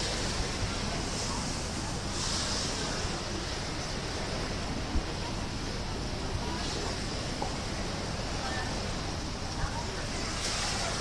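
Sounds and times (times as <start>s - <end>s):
waves: 0.0s - 11.0s.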